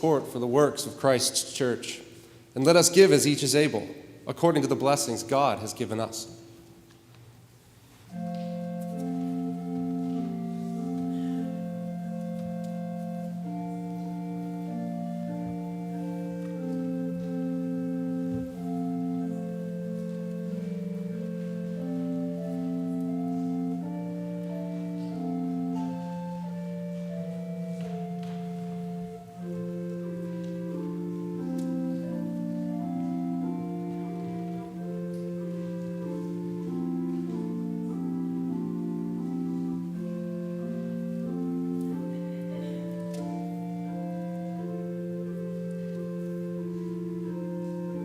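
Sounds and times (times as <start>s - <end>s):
organ music: 0.0s - 48.0s.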